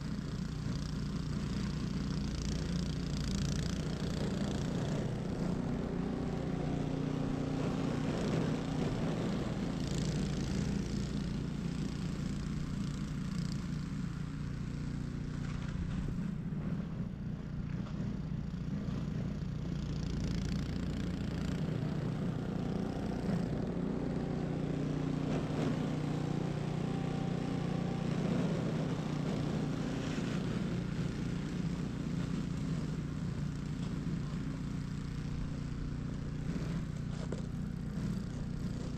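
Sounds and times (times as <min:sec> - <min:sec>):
snow blower running: 0:00.0 - 0:38.9.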